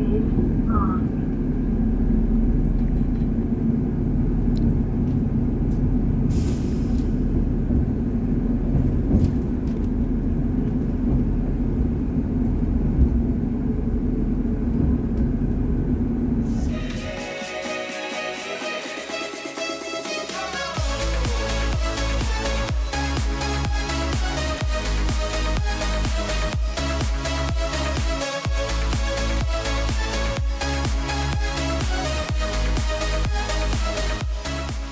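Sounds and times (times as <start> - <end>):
train engine idling: 0.0 - 34.9.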